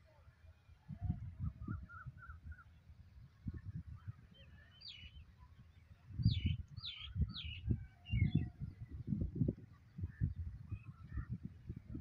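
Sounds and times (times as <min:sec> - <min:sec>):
wind buffeting microphone: 0:00.8 - 0:12.0.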